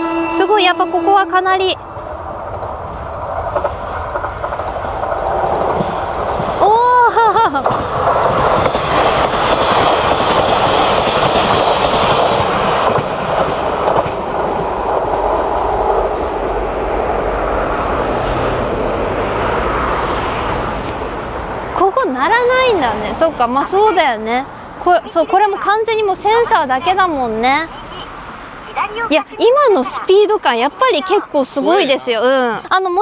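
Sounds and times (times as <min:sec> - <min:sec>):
low engine rumble: 0:00.0 - 0:32.7
train wheels rolling on rails: 0:00.0 - 0:33.0
wheels clattering over rail joints: 0:00.8 - 0:32.7.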